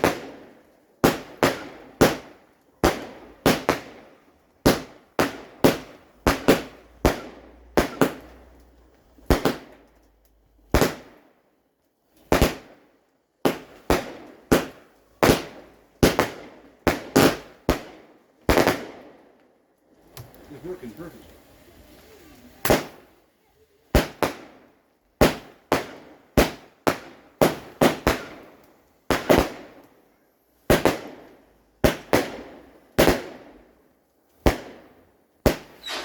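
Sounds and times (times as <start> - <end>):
firework bangs: 0.0 - 10.0, 10.6 - 11.2, 12.2 - 19.3, 21.8 - 23.2, 23.8 - 30.0, 30.6 - 33.8, 34.4 - 36.0.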